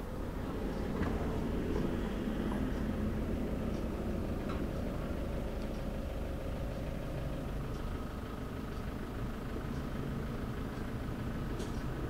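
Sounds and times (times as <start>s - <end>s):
fuel pump humming: 0.0s - 12.0s.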